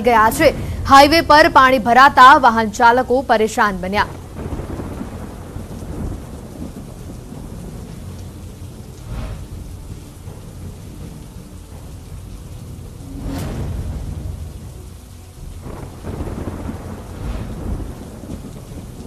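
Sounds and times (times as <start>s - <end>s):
heavy rain: 0.0s - 19.0s
low thunder rumbling: 0.0s - 19.0s.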